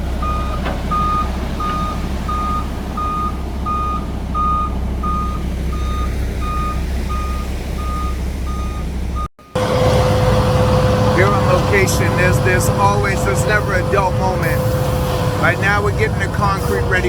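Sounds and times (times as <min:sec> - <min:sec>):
truck engine running: 0:00.0 - 0:17.0
truck reversing alarm beeping: 0:00.0 - 0:17.0.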